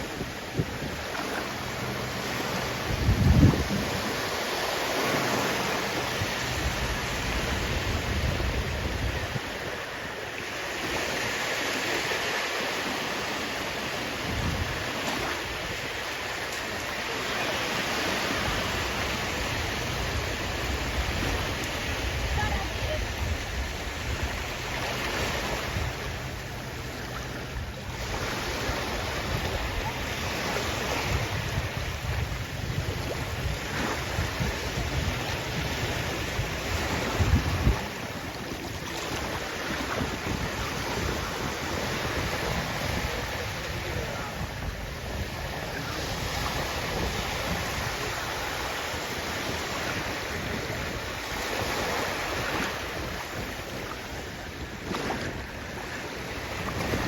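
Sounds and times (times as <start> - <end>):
sea waves breaking: 0.0 - 57.0
wind rumbling on microphone: 0.0 - 57.0.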